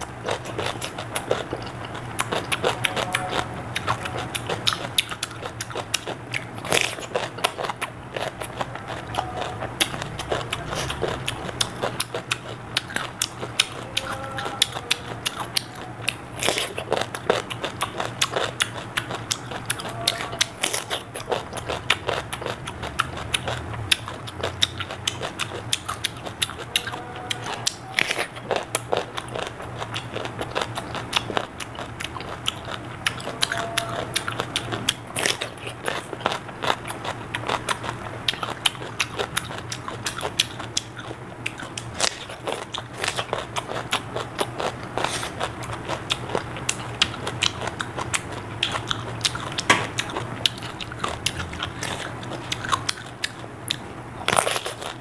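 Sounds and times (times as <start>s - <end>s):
crunching and chewing cucumber: 0.0s - 55.0s
low steady hum: 0.0s - 55.0s
wet mouth sounds: 0.0s - 55.0s.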